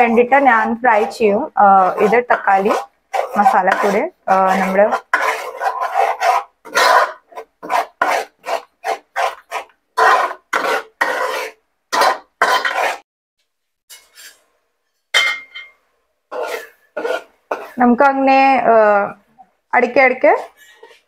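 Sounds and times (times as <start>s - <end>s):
spoon scraping metal pot: 0.0s - 13.0s, 13.9s - 15.7s, 16.3s - 18.6s, 19.8s - 21.0s.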